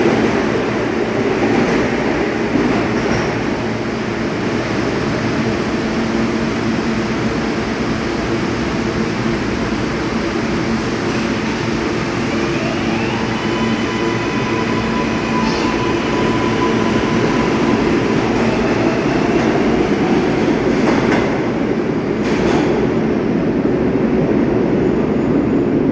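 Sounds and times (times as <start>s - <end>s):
subway train motor hum: 3.6s - 24.7s.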